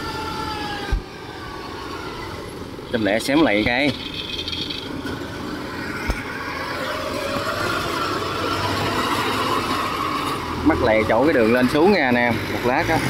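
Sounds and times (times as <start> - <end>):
tracked carrier engine running: 0.0 - 13.0.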